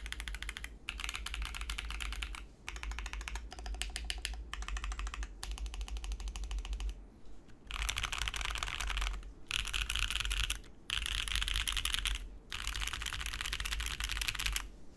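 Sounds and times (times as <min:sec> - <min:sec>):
fast typing on mechanical keyboard: 0:00.0 - 0:07.0, 0:07.7 - 0:14.7.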